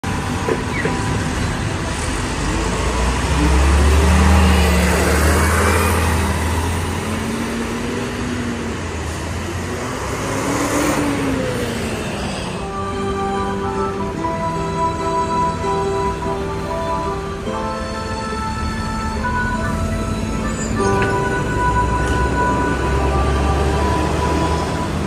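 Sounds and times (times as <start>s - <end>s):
bus engine passing: 0.0s - 25.0s
bus engine rumbling: 0.0s - 25.0s
road traffic: 0.0s - 25.0s.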